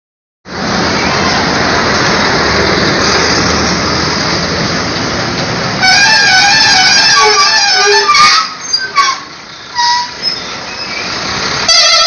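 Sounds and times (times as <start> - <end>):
traffic rushing: 0.5 - 12.0.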